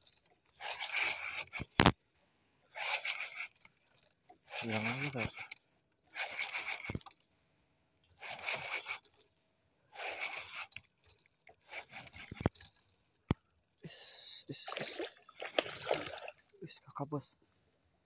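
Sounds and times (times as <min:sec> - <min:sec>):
metallic jingling and rattling: 0:00.0 - 0:18.0.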